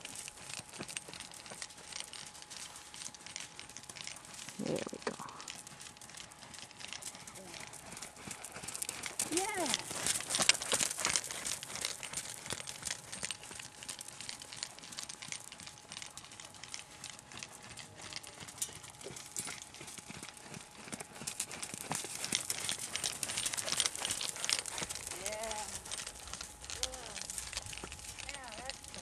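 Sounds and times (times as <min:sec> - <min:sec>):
horse hoofbeats trotting on sand: 0:00.0 - 0:29.0.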